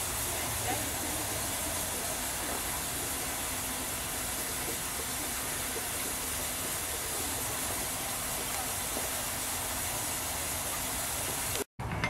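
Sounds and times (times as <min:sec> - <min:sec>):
steam locomotive hissing: 0:00.0 - 0:11.7.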